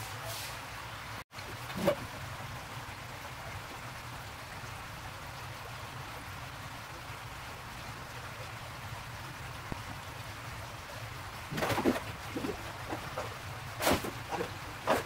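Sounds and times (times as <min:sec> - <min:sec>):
aquarium water running with hum: 0:00.0 - 0:15.0.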